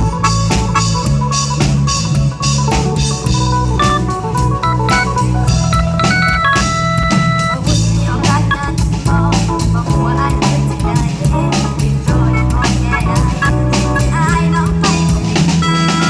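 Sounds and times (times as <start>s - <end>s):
dance band music: 0.0s - 16.0s.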